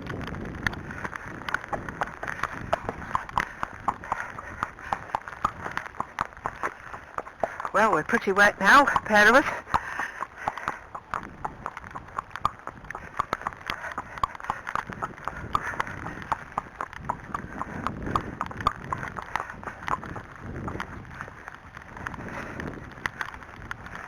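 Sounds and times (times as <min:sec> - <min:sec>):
horse hooves on firm ground: 0:00.0 - 0:24.0.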